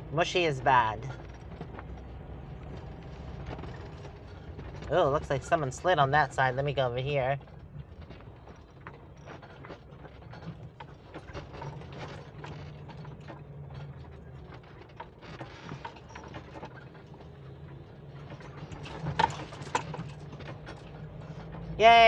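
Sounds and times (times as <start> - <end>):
engine droning: 0.0 - 22.0
vehicle body rattling: 0.0 - 22.0.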